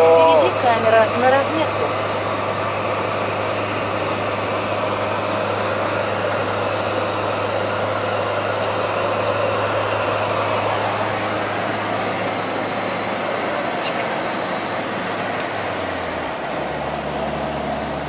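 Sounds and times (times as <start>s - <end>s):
truck engine hum: 0.0s - 18.0s
tyre and road noise: 0.0s - 18.0s.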